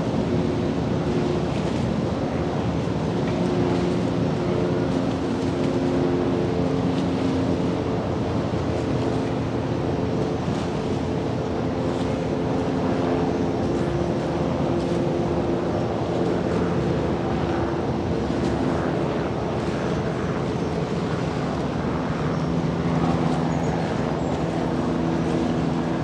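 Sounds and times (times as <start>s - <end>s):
boat engines droning: 0.0s - 26.0s.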